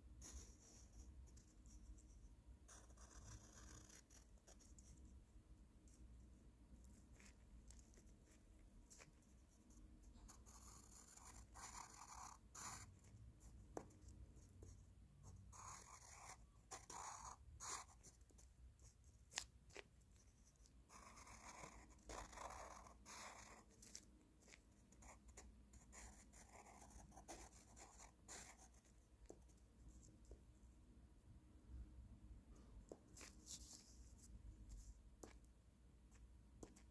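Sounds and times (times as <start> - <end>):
pencil scratching on paper: 0.1 - 5.1, 6.8 - 30.4, 32.9 - 35.4.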